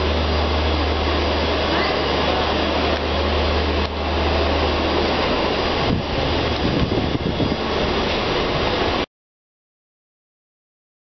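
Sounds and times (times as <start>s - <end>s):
train coaches rumbling past: 0.0s - 9.1s.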